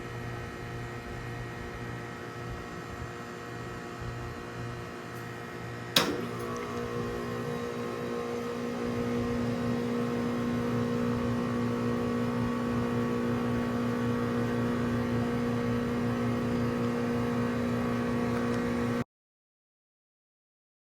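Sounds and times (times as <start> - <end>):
heat pump compressor hum: 0.0 - 19.0
outdoor fan whirring: 0.0 - 19.0.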